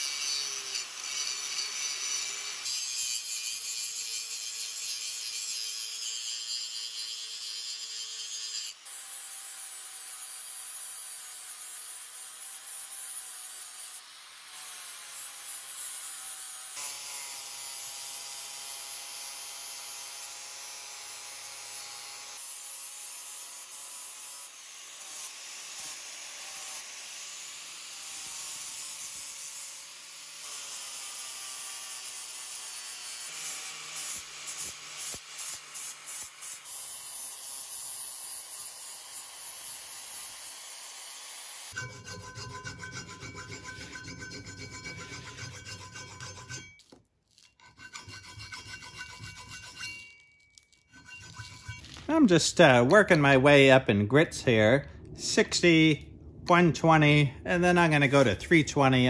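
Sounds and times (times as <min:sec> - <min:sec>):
angle grinder grinding steel: 0:00.0 - 0:55.8.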